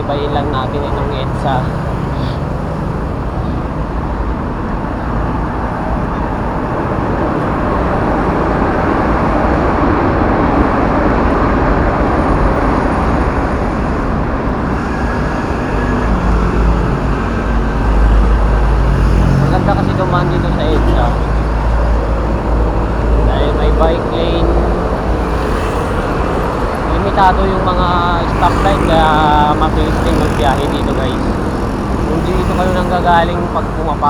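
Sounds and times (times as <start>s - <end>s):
heavy highway traffic: 0.0s - 34.0s.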